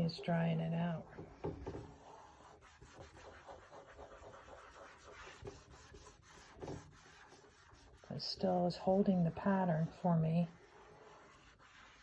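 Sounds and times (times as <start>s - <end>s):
faint scratchy wiping: 0.0s - 12.0s.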